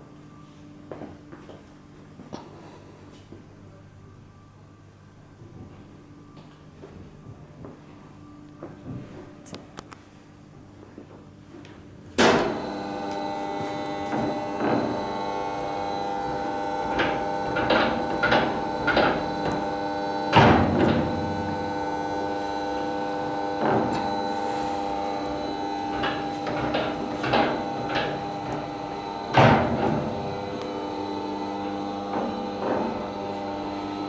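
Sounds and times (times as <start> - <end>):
steady mechanical hum: 0.0 - 34.0.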